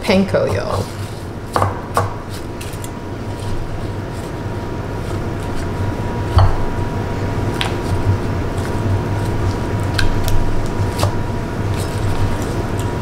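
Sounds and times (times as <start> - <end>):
low hum with high tone: 0.0 - 13.0.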